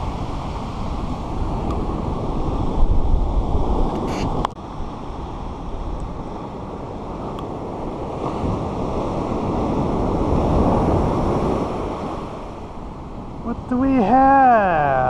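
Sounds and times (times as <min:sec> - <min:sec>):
surf washing up beach: 0:00.0 - 0:15.0
wind buffeting microphone: 0:00.0 - 0:15.0.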